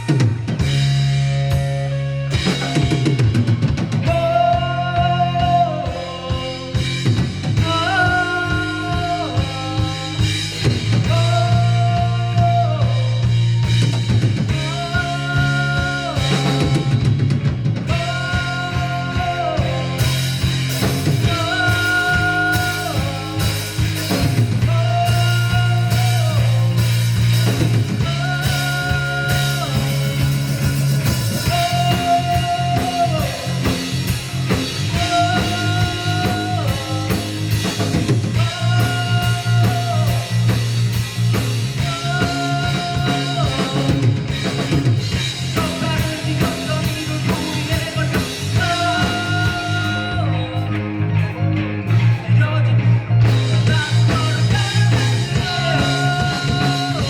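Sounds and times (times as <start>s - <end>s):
drum kit beat: 0.0s - 52.2s, 53.0s - 57.0s
live rock band playing: 0.0s - 57.0s.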